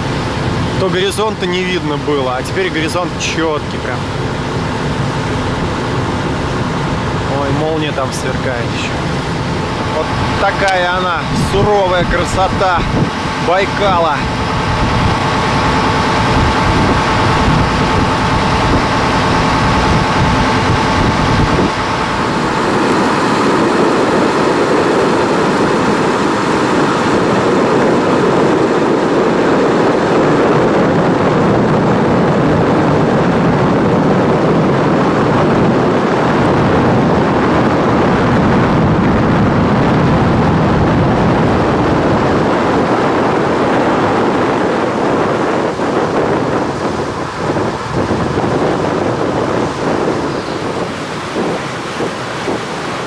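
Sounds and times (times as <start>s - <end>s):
boat engine running: 0.0s - 53.0s
high steady whine: 0.0s - 53.0s
rush of wind and water: 0.0s - 53.0s.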